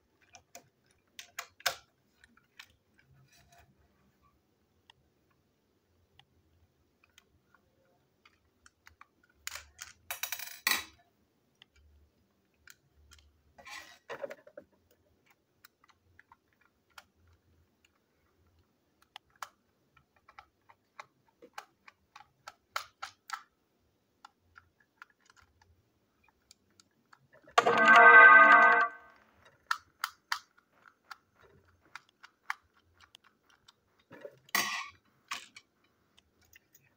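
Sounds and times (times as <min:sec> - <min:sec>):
plastic toy parts clicking: 0:00.2 - 0:03.5, 0:07.0 - 0:11.0, 0:12.5 - 0:13.4, 0:14.3 - 0:36.9.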